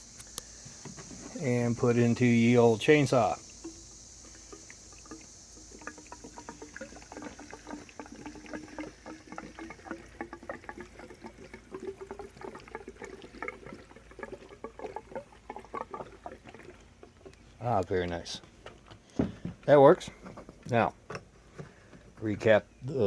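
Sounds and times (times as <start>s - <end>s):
fuel glugging into tank: 0.0s - 23.0s.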